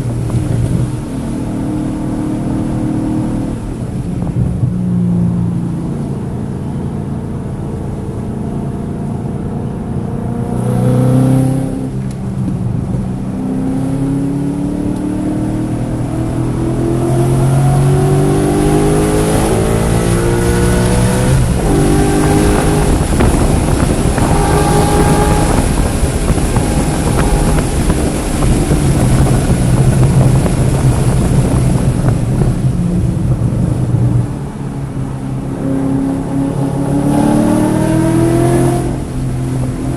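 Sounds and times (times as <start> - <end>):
car engine at full throttle: 0.0 - 39.9.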